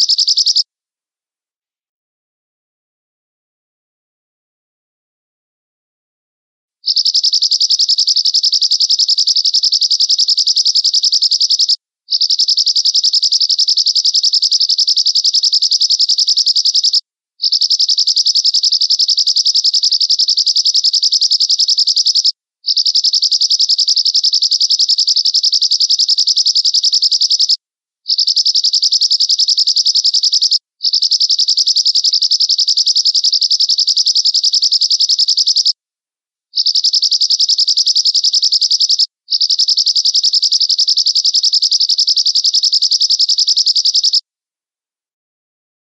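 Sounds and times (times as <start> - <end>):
finch high-pitched trill: 0.0 - 0.6, 6.9 - 35.7, 36.6 - 44.2.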